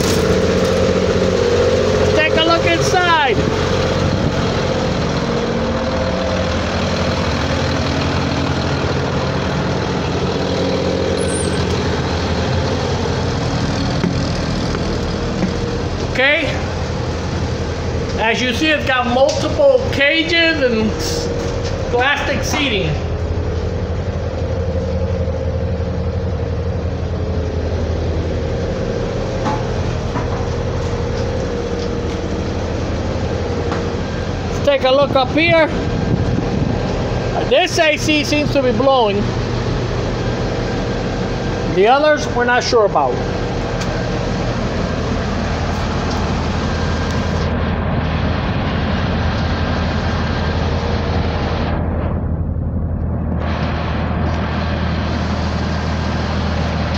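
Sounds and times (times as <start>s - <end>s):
air conditioning compressor hum: 0.0s - 56.9s
diesel engine idling: 0.0s - 56.9s.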